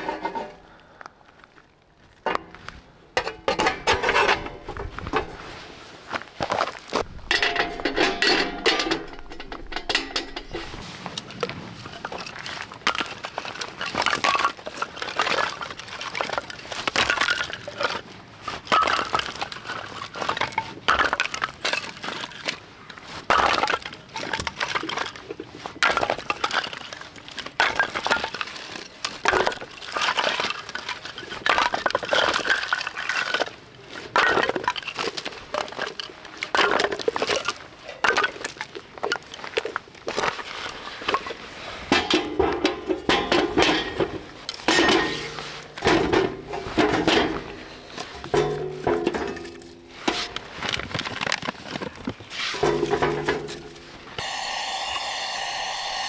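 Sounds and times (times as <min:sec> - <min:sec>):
firewood clattering onto a pile: 0:00.0 - 0:00.8, 0:02.2 - 0:05.4, 0:06.9 - 0:54.1.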